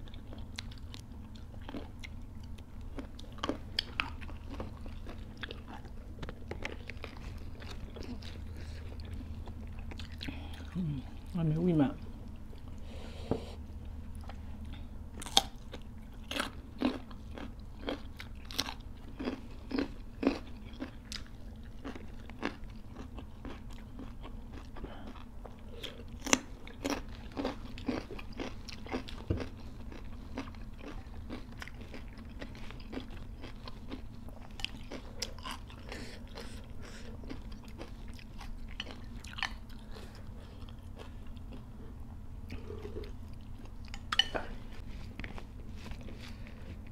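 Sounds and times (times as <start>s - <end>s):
chewing and crunching: 0.0s - 12.9s, 13.7s - 46.9s.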